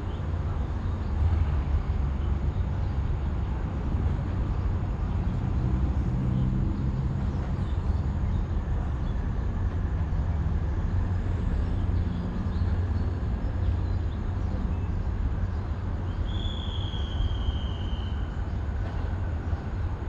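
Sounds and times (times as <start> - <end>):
diesel train engine rumbling: 0.0 - 20.0.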